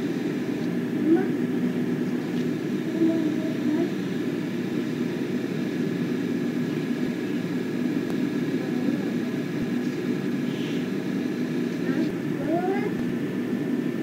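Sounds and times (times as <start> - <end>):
faint high whine: 0.0 - 14.0
low rumble of room noise: 0.0 - 14.0.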